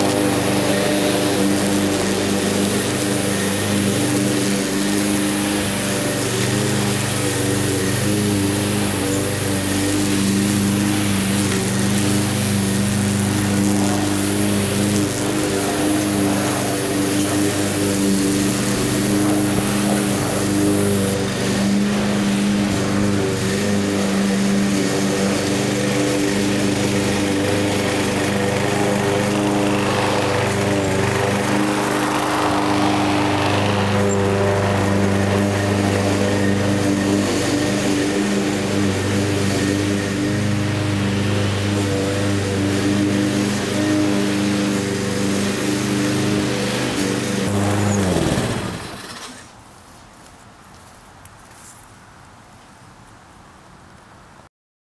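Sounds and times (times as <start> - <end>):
lawn mower engine running: 0.0 - 49.7.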